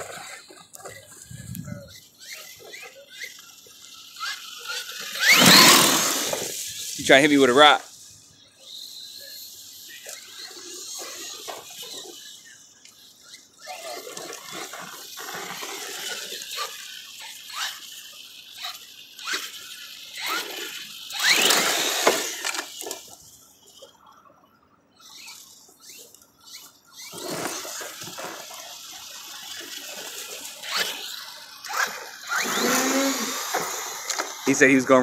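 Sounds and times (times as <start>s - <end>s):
tyres churning dirt: 0.0s - 24.1s, 25.0s - 35.0s
electric motor whining: 0.0s - 24.2s, 24.9s - 35.0s.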